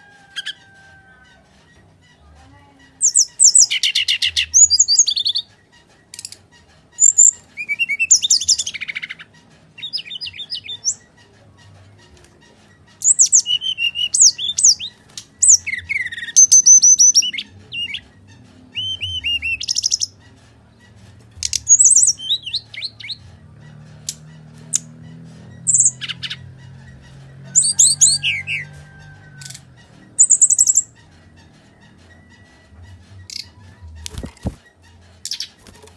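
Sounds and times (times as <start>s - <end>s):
bird song chirps and trills: 0.0s - 35.9s.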